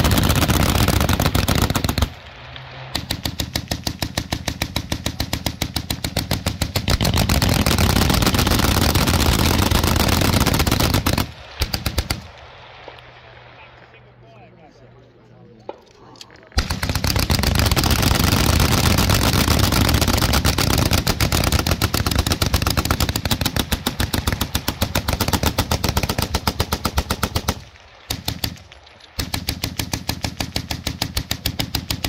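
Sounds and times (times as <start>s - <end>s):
machine guns firing: 0.0s - 12.5s, 16.6s - 32.0s.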